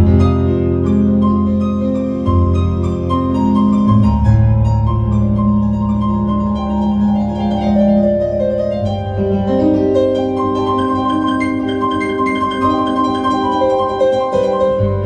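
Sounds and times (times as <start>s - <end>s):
piano improvisation: 0.0s - 15.0s.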